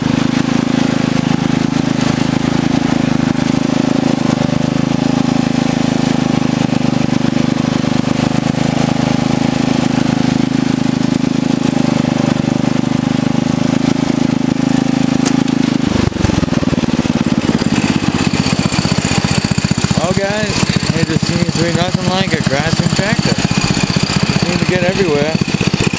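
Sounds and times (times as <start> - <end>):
lawn tractor engine running: 0.0 - 25.9.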